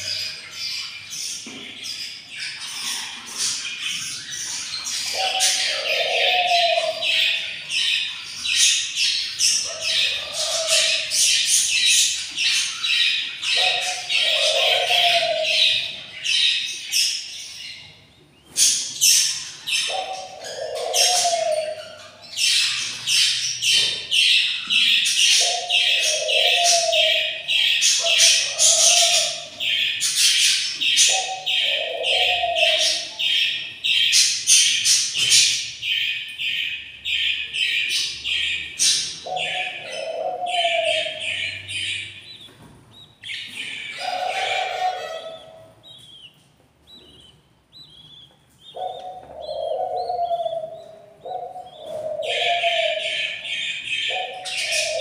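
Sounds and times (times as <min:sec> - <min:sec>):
budgerigar chicks chirping: 0:00.0 - 0:55.0.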